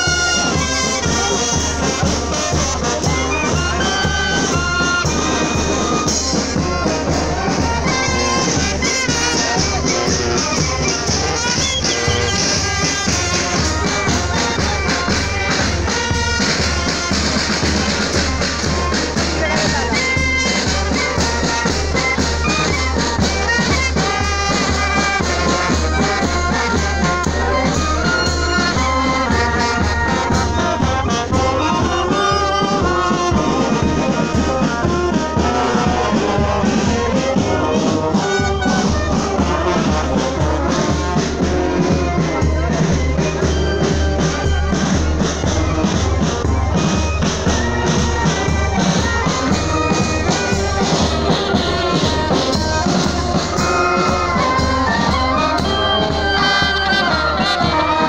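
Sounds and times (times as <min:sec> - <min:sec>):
bass and snare drums: 0:00.0 - 0:58.0
marching band playing: 0:00.0 - 0:58.0
trombones and saxophones: 0:00.0 - 0:58.0.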